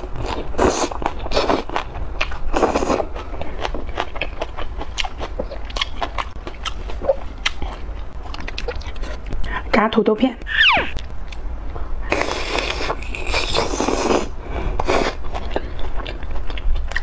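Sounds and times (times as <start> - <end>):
wet chewing: 0.2 - 9.4, 12.1 - 17.0.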